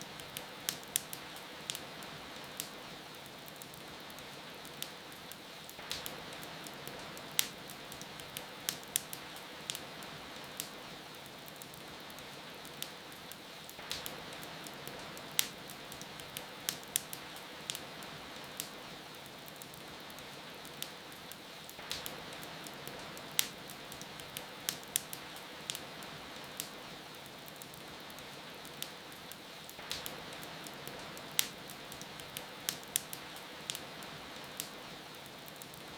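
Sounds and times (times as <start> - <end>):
rain falling: 0.0 - 35.9
wood fire crackling: 0.0 - 35.9.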